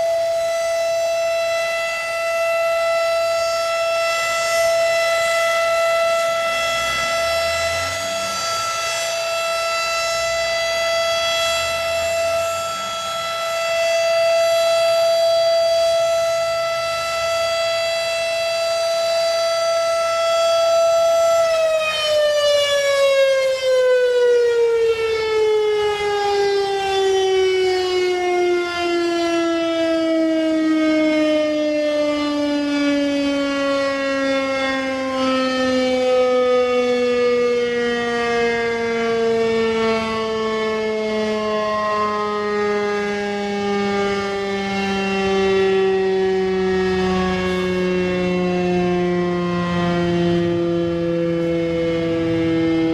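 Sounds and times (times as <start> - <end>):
tornado siren steady tone: 0.0 - 52.9.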